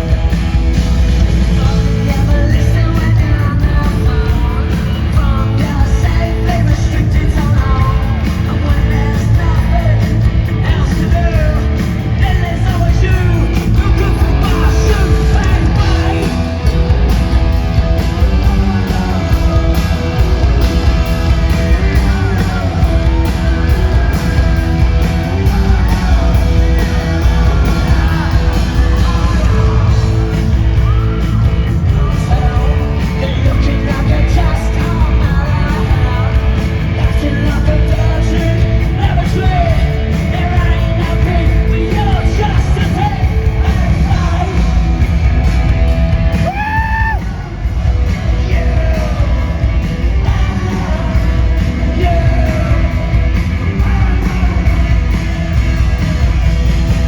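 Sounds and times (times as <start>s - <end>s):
bass guitar: 0.0s - 57.0s
drums: 0.0s - 57.0s
loud electric guitars: 0.0s - 57.0s
punk rock band playing live: 0.0s - 57.0s
singer yelling vocals: 1.4s - 56.0s.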